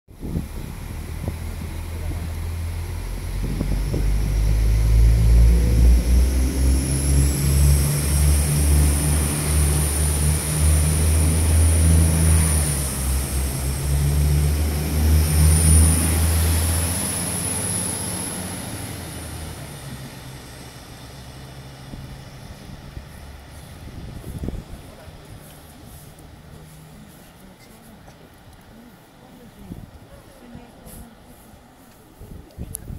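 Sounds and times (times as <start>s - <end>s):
high whine: 0.1s - 26.6s
diesel train engines droning: 0.1s - 32.3s.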